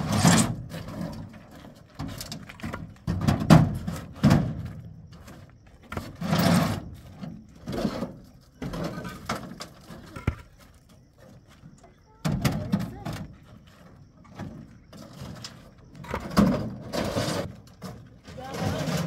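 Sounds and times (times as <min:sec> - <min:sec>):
objects scraping and knocking: 0:00.0 - 0:19.0.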